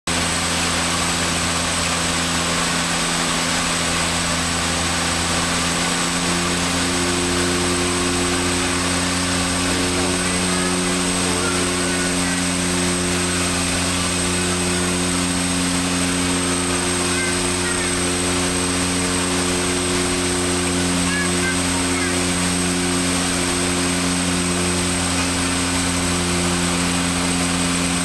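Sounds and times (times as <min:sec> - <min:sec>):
propeller engine drone: 0:00.1 - 0:28.0.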